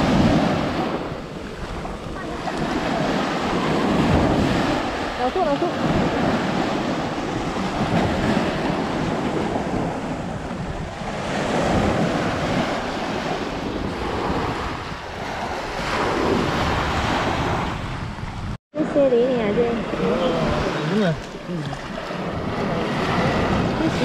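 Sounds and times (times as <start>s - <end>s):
small waves breaking on sand: 0.0s - 18.0s, 18.8s - 24.0s
wind rumbling on microphone: 0.0s - 24.0s.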